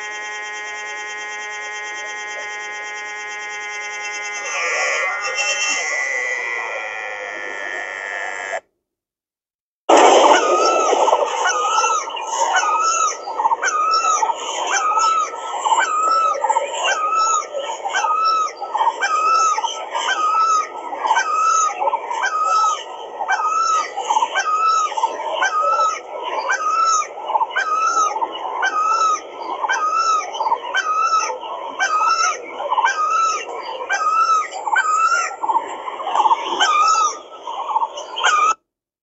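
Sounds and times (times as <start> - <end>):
birds calling repeatedly: 0.0 - 8.6, 10.0 - 38.6.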